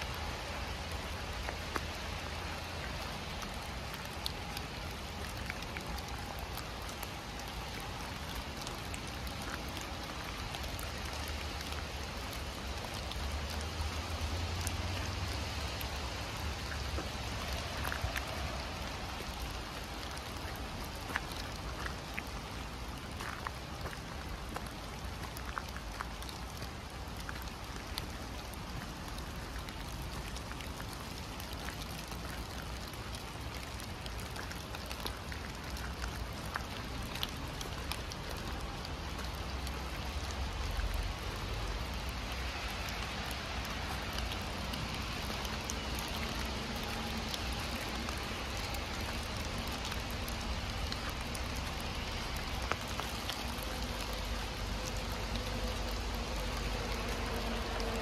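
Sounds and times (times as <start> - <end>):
heavy rain hissing: 0.0 - 58.0
raindrops tapping: 0.0 - 58.0.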